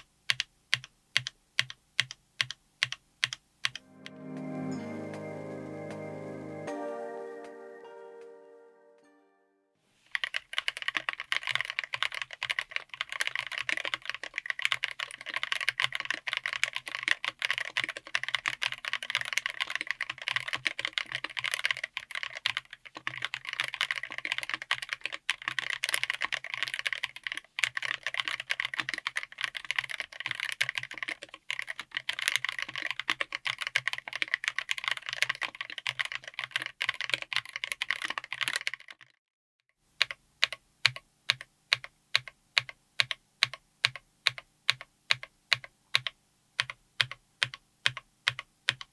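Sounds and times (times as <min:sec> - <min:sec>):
fast mechanical keyboard typing: 0:00.0 - 0:03.8, 0:10.1 - 0:39.1, 0:40.0 - 0:48.9.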